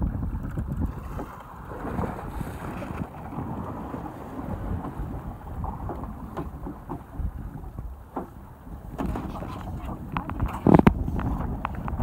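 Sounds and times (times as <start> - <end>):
waves washing around hull: 0.0 - 12.0
wind buffeting microphone: 0.0 - 12.0.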